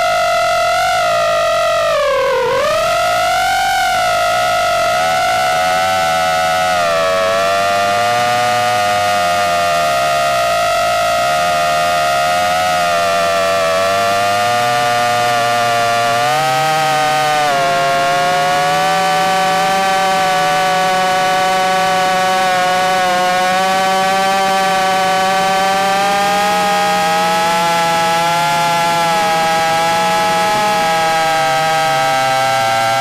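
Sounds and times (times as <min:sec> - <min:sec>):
drone propellers whining: 0:02.8 - 0:33.0.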